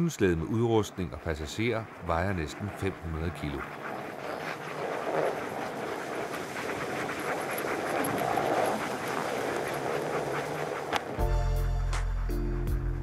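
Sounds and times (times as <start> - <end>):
paws and sled runners crunching snow: 0.0 - 11.2
dogs panting: 0.2 - 11.3.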